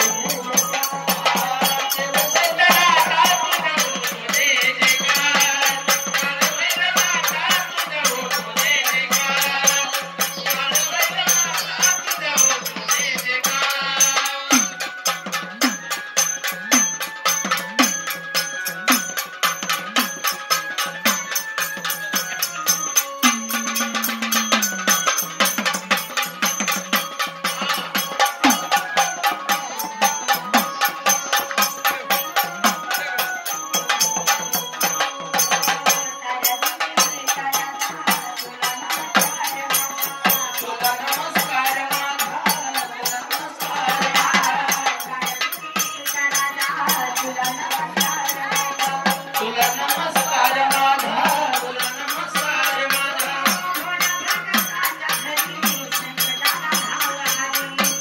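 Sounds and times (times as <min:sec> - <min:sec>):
rattling jingling percussion: 0:00.0 - 0:58.0
wavering melody: 0:00.0 - 0:58.0.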